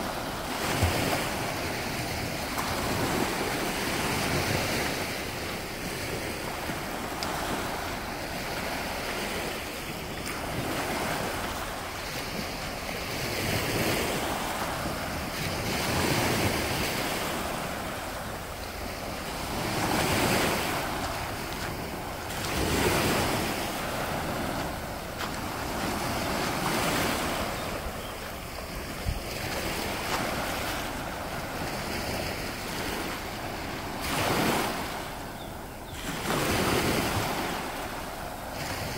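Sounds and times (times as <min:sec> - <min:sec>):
waves breaking on pebbly beach: 0:00.0 - 0:35.2, 0:35.9 - 0:38.9.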